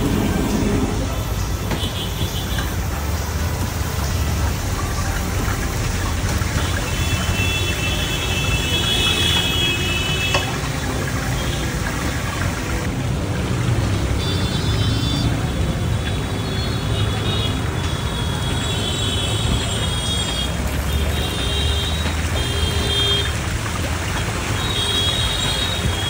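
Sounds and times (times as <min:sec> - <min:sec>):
hot oil sizzling: 0:00.0 - 0:26.0
low rumble of road traffic: 0:00.0 - 0:26.0.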